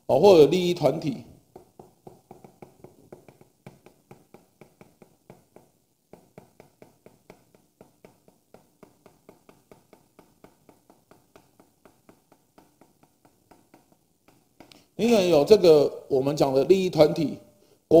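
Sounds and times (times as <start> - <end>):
chalk tapping on chalkboard: 0.5 - 15.6.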